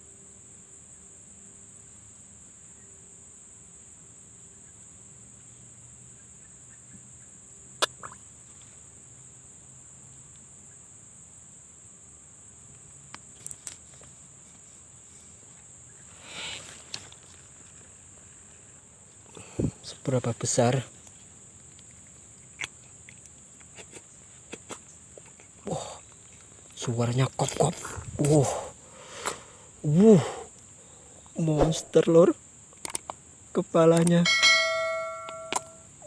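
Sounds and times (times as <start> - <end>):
chorus of crickets: 0.0 - 36.0.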